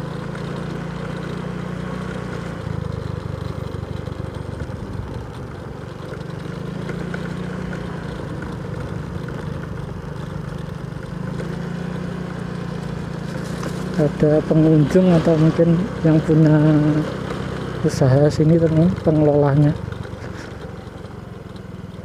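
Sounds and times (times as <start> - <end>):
motorcycle engine running: 0.0 - 22.0
road and wind noise: 0.0 - 22.0.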